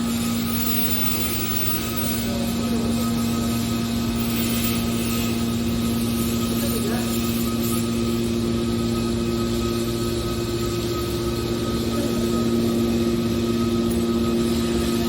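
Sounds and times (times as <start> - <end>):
industrial machinery droning: 0.0 - 15.0.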